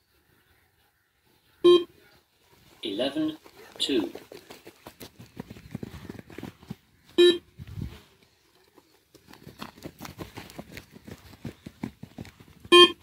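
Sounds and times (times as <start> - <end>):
footsteps running on grass: 2.3 - 13.0.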